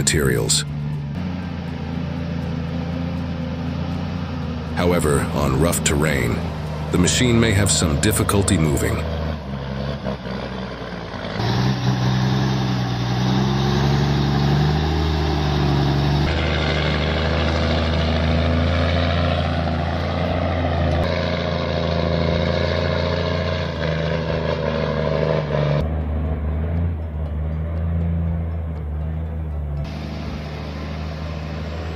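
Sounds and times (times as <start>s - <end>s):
heavy machine engine droning: 0.0s - 31.9s.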